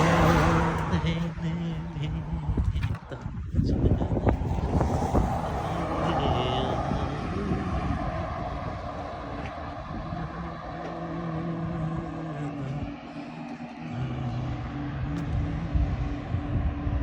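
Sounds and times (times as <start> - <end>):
heavy truck engine and road drone: 0.0 - 17.0
low steady tone: 0.0 - 17.0.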